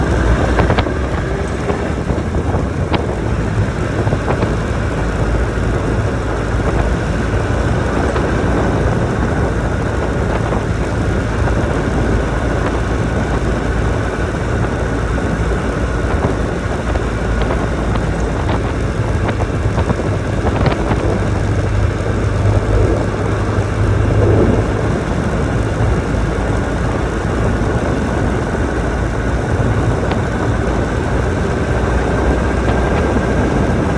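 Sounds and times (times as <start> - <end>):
motorcycle engine running steadily: 0.0 - 33.9.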